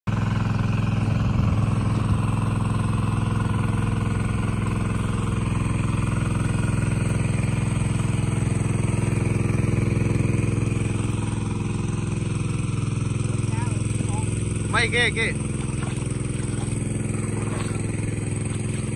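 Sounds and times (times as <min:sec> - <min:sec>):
engine-driven water pump running: 0:00.1 - 0:18.9.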